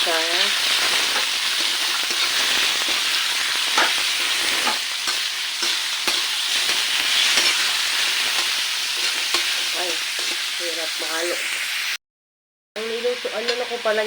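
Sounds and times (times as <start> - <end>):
meat sizzling in hot oil: 0.0 - 12.0, 12.8 - 14.0.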